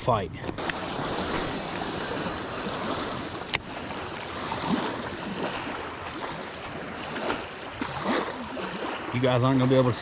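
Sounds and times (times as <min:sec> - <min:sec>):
waves lapping on concrete ramp: 0:00.0 - 0:10.0.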